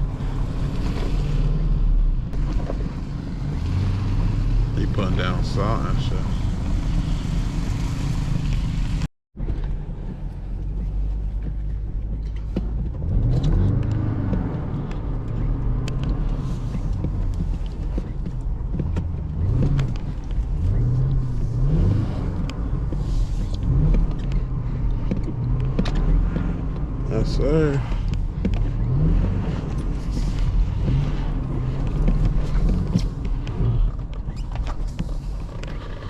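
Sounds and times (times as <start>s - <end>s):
car engine revving: 0.0s - 9.1s, 12.8s - 36.0s.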